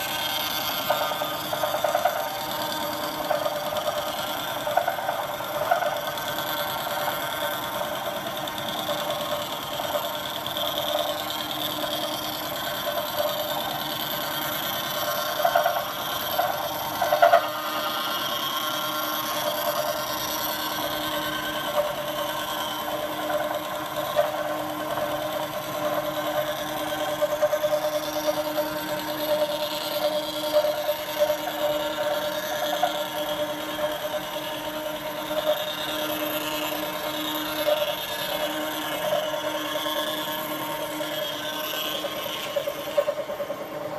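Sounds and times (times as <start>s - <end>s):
milling machine cutting steel: 0.0s - 43.9s.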